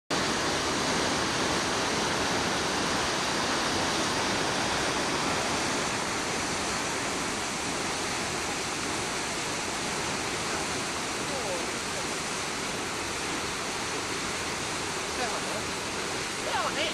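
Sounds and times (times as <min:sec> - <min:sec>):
white water roaring: 0:00.1 - 0:16.9.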